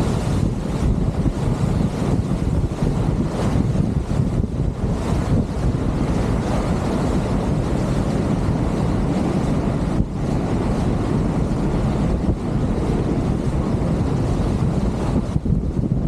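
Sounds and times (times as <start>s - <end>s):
water rushing along hulls: 0.0s - 16.0s
wind buffeting microphone: 0.0s - 16.0s.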